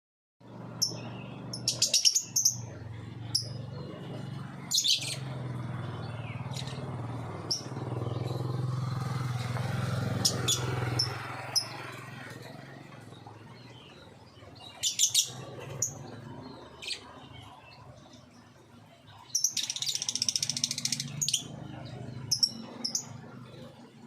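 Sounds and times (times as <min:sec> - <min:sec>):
birds chirping: 0:00.4 - 0:24.0.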